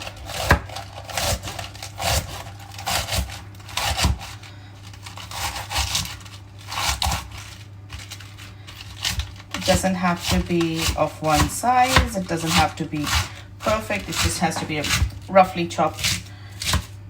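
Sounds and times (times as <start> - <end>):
knife chopping lettuce: 0.0 - 17.0.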